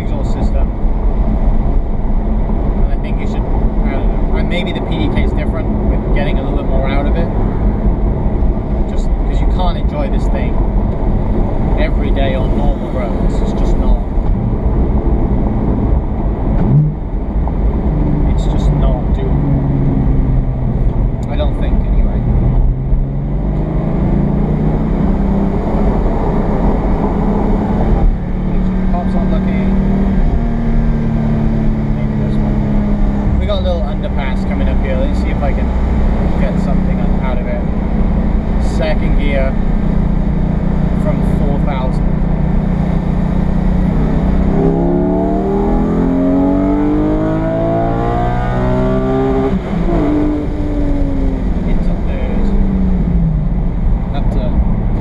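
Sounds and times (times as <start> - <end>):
car engine driving: 0.0 - 55.0
road noise: 0.0 - 55.0.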